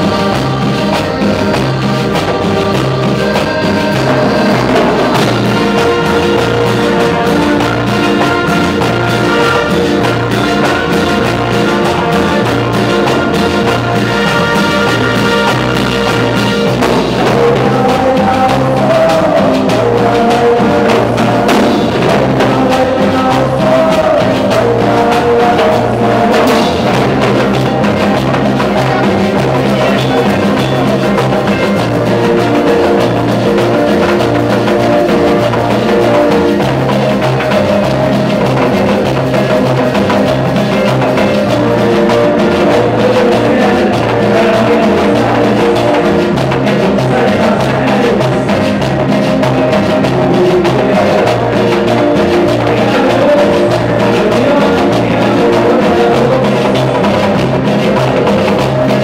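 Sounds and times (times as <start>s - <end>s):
live band with accordions: 0.0s - 59.0s.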